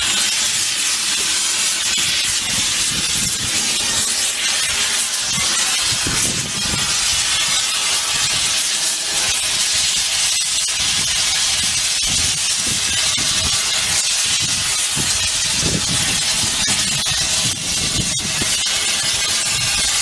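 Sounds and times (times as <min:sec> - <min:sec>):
heating torch hissing: 0:00.0 - 0:20.0.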